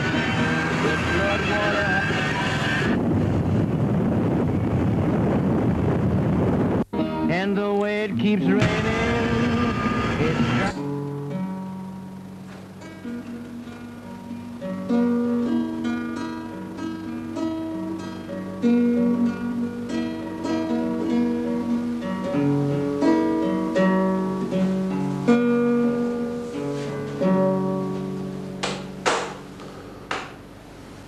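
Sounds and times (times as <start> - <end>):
acoustic guitar playing: 0.0 - 31.0.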